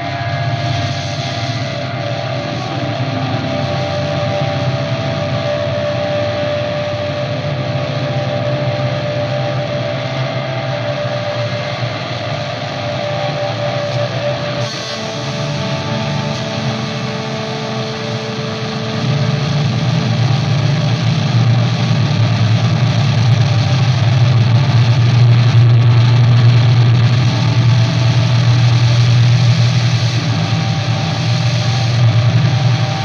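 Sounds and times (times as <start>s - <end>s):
electric guitar drone: 0.0s - 33.0s
heavy low hum: 0.0s - 33.0s.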